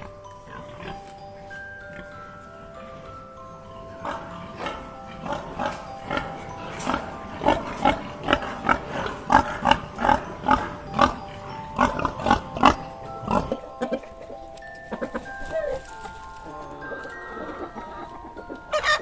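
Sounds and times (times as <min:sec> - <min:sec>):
background music with chiming tones: 0:00.0 - 0:19.0.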